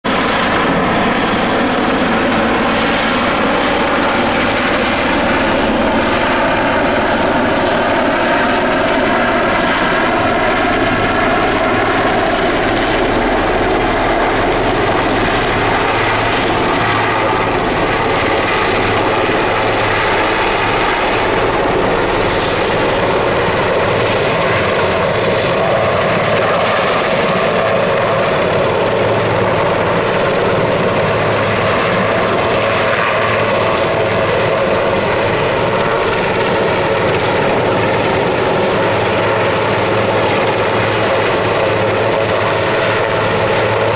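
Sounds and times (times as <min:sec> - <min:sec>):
helicopter rotor and turbine: 0:00.0 - 0:43.9.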